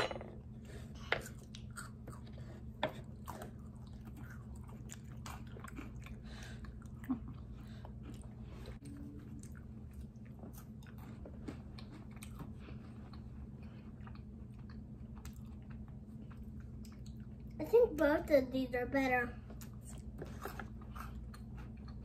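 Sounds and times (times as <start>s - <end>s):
steady low hum: 0.0s - 22.0s
chewing chocolate: 1.0s - 17.6s, 19.6s - 22.0s.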